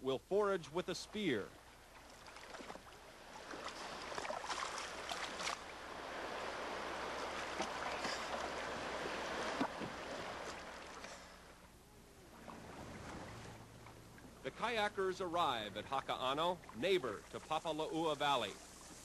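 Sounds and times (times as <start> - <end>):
sea water splashing: 0.8 - 19.0.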